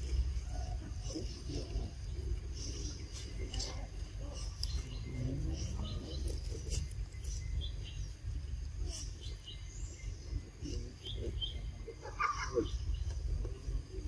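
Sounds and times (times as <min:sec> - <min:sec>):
high chirps of birds or insects: 0:00.0 - 0:14.0
steady low rumble: 0:00.0 - 0:14.0.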